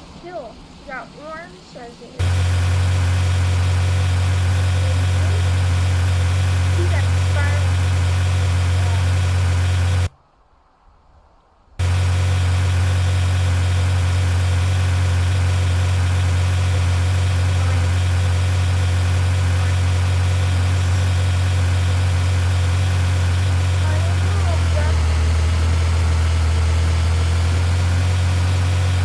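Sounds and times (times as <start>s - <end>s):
vehicle engine idling: 0.0s - 10.1s, 11.8s - 29.0s.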